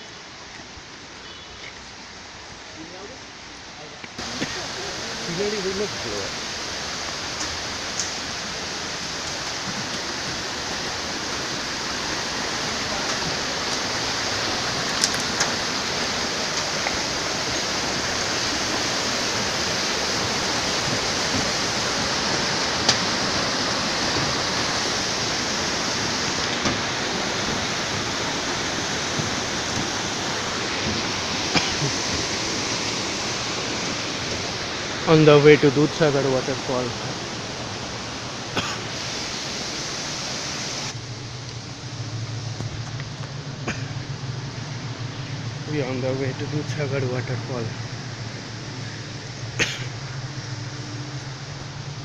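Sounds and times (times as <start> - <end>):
river cascading over boulders: 0.0 - 52.0.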